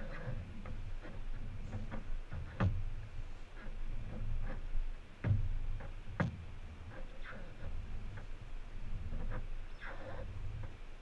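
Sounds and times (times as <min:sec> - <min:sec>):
paddle knocks and ticks: 0:00.0 - 0:11.0
water rumbling against hull: 0:00.0 - 0:11.0.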